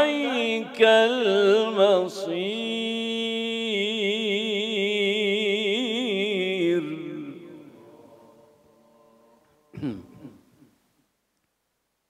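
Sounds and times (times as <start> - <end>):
man reciting melodically: 0.0 - 10.3.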